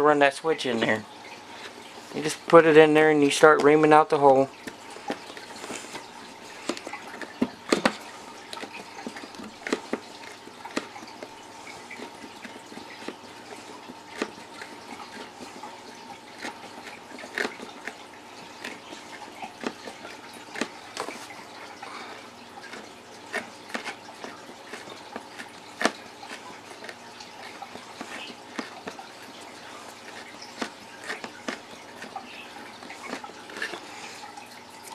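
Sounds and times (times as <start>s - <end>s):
reamer scraping plastic: 0.1s - 34.9s.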